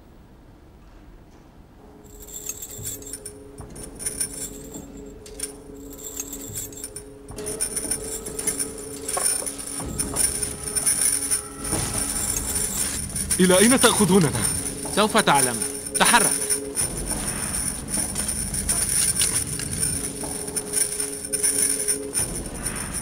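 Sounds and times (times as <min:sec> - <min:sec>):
chains clinking and jangling: 0:02.1 - 0:23.0
low music drone: 0:02.1 - 0:23.0.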